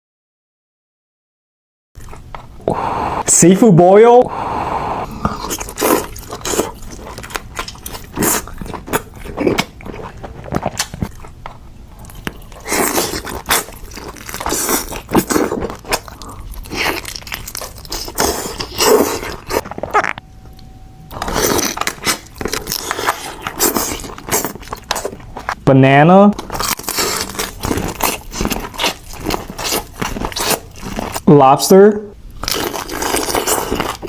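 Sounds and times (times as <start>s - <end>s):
close eating crunching and chewing: 2.0s - 2.7s, 5.1s - 25.6s, 26.3s - 31.4s, 32.2s - 34.0s.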